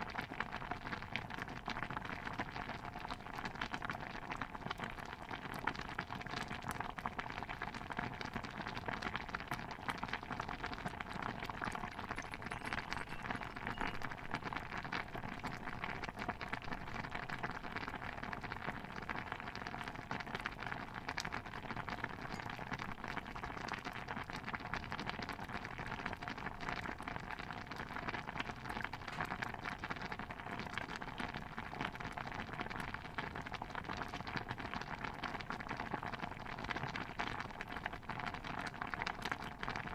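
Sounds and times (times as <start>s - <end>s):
stew bubbling in a pot: 0.0s - 39.9s.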